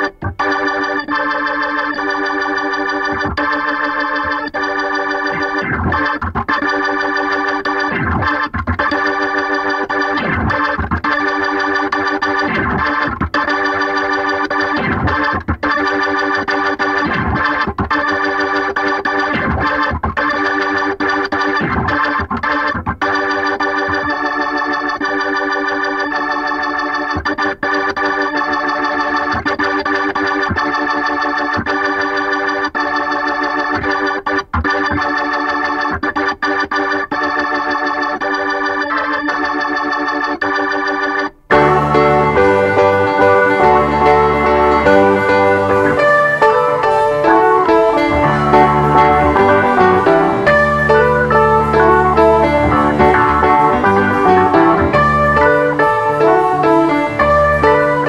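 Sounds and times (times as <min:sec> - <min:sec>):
organ sustained chords: 0:00.0 - 0:58.0
piano and electric piano notes: 0:00.0 - 0:58.0.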